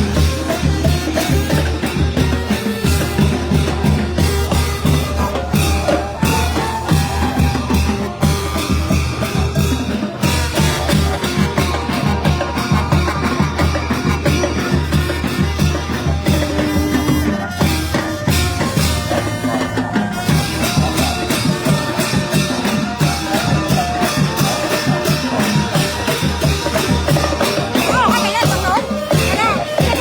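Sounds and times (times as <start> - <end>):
brass band horns: 0.0 - 30.0
steady drum beat: 0.0 - 30.0.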